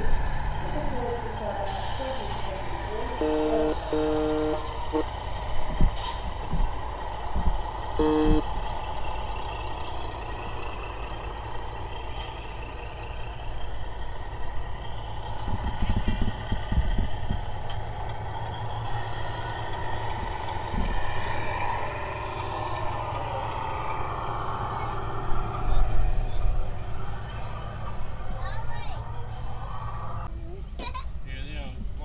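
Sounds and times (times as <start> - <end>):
diesel truck engine sound: 0.0 - 32.0.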